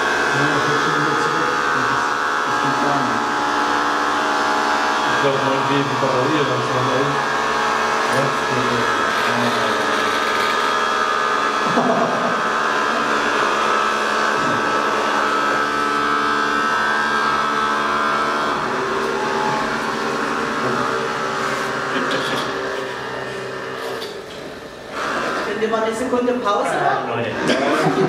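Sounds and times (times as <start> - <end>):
small robots buzzing on tiles: 0.1 - 28.0.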